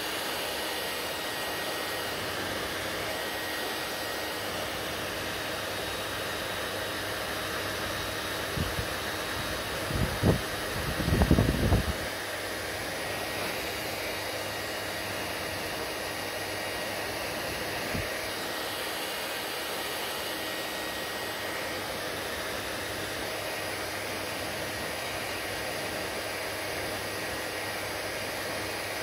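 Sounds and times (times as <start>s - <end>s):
hair dryer blowing air: 0.0s - 29.0s.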